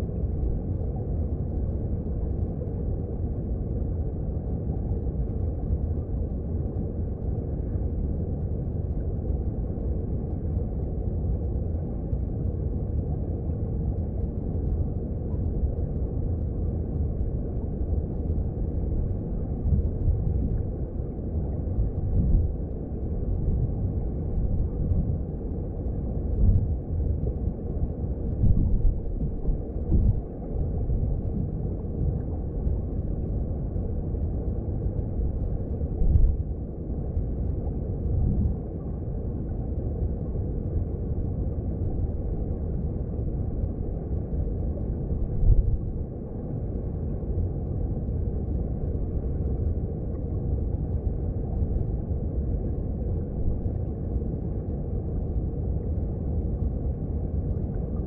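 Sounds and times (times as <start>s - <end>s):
stream heard underwater: 0.0s - 58.0s.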